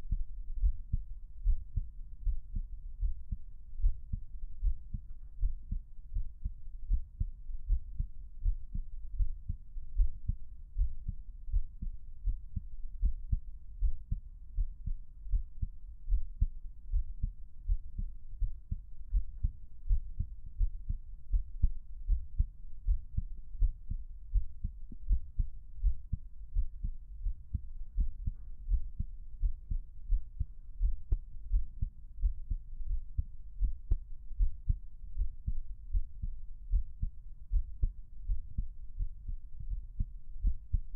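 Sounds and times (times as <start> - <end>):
heartbeat: 0.0 - 40.9.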